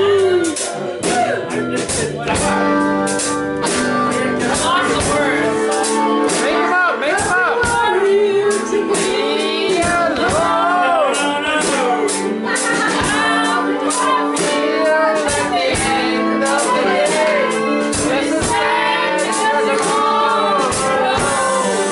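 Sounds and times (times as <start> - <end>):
woman and men singing: 0.0 - 2.8, 3.6 - 21.9
drums: 0.0 - 21.9
electric guitar: 0.0 - 21.9.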